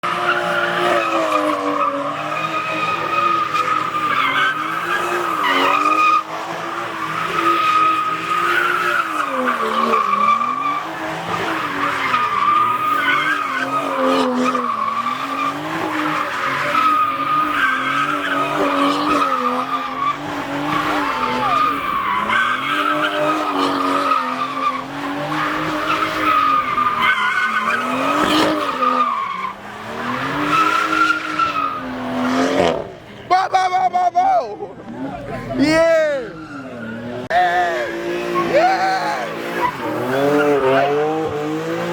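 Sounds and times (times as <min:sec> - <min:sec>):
car engine revving: 0:00.0 - 0:33.3, 0:34.8 - 0:41.9
car tyres squealing: 0:00.0 - 0:41.9.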